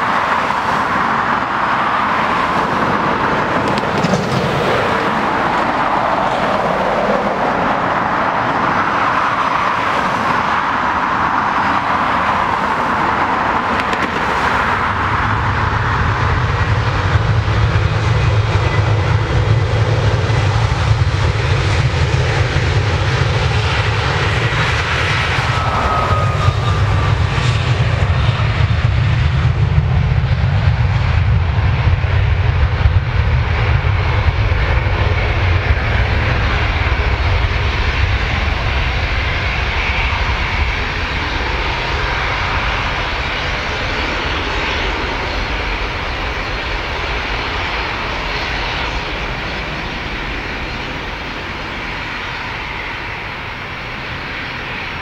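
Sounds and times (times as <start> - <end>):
jet engine deep roar: 0.0 - 55.0
jet engine whine with hiss: 0.0 - 55.0.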